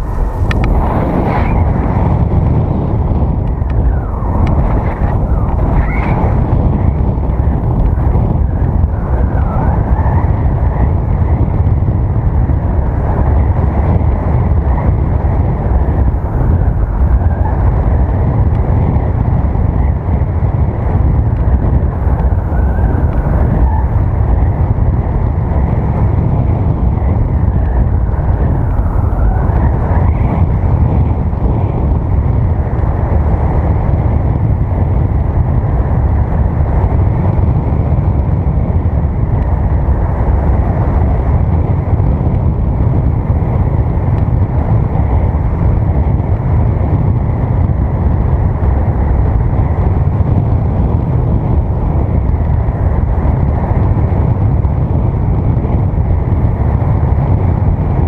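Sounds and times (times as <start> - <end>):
wind rumbling over microphone: 0.0 - 58.0.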